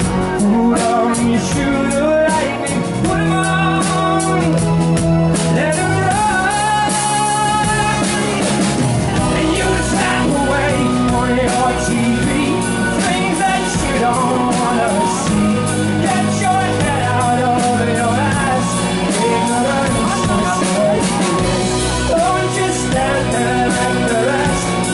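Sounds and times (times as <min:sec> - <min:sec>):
bass guitar: 0:00.0 - 0:24.9
drum kit beat: 0:00.0 - 0:24.9
man singing: 0:00.0 - 0:24.9.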